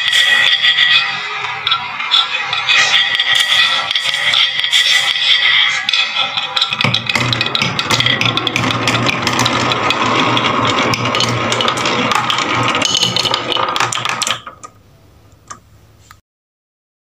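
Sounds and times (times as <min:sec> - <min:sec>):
wooden balls rattling down marble run: 0:00.0 - 0:14.8.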